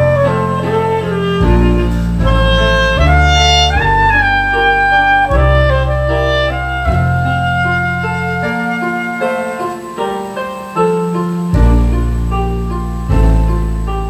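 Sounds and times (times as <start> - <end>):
clarinet melody: 0.0 - 14.0
deep sustained bass notes: 0.0 - 14.0.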